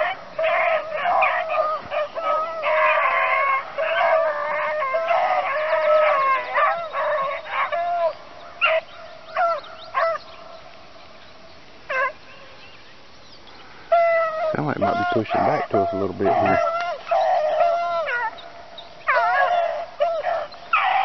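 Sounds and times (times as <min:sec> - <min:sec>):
dogs baying: 0:00.0 - 0:10.3, 0:11.9 - 0:12.2, 0:13.9 - 0:21.0.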